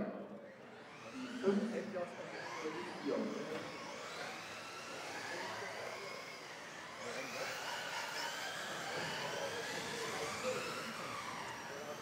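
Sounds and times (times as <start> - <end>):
rc car electric motors whining: 0.4 - 12.0.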